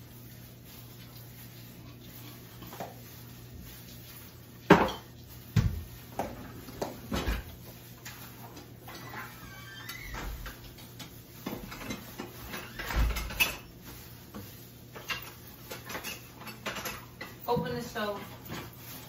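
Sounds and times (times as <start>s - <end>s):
dishes and utensils clattering: 0.7s - 19.0s.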